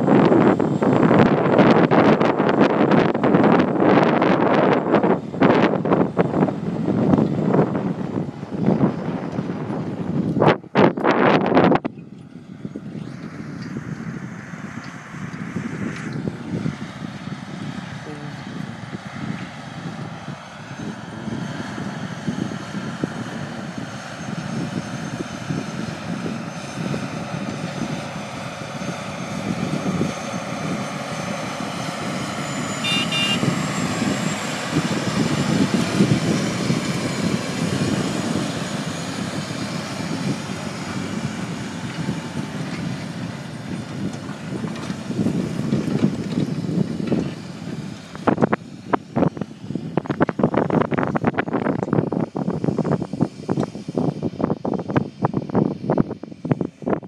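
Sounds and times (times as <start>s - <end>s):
tractor running under load: 0.0s - 57.0s.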